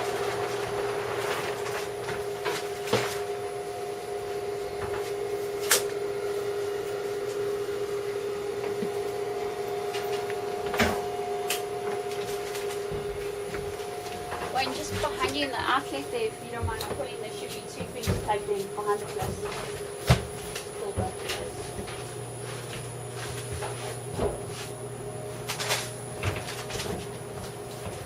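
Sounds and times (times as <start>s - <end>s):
electric motor hum: 0.0s - 28.0s.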